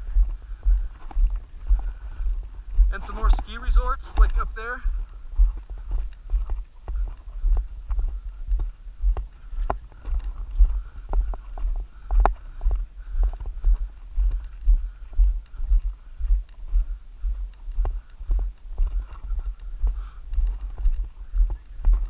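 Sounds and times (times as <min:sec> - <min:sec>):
footsteps on gravel: 0:00.0 - 0:22.0.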